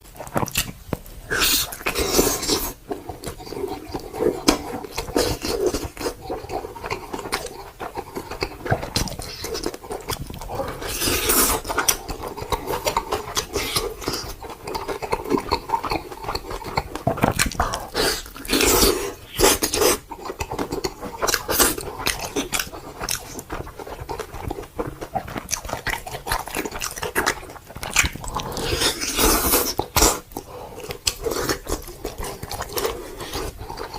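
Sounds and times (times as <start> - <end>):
wet chewing of meat: 0.0 - 33.9.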